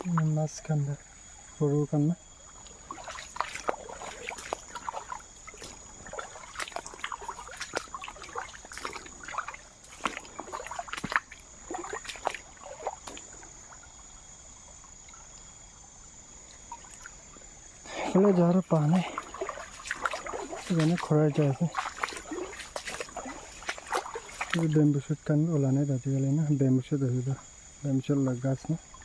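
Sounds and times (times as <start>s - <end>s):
water splashing and trickling: 0.0s - 29.0s.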